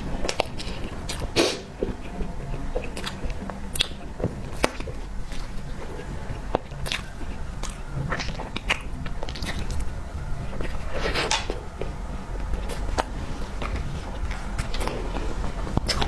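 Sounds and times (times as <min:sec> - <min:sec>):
chewing cake: 0:00.0 - 0:16.0.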